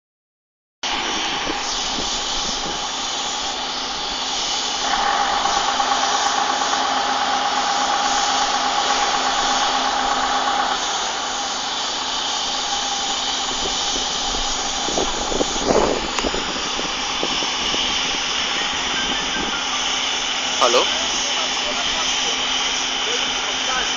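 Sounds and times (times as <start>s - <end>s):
machinery hiss and hum: 0.8s - 23.9s
higher machine tone: 0.9s - 23.9s.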